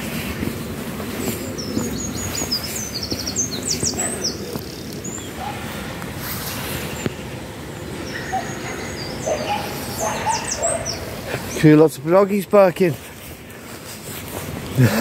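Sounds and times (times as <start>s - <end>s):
low outdoor background noise: 0.0s - 15.0s
songbirds chirping and twittering: 0.0s - 15.0s.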